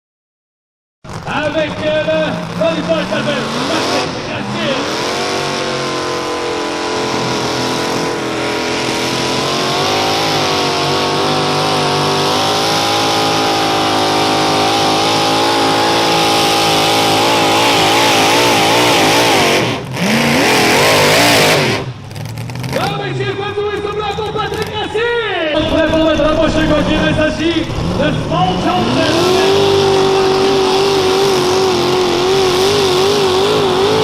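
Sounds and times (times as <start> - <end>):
tractor engine at full throttle: 1.0 - 34.0.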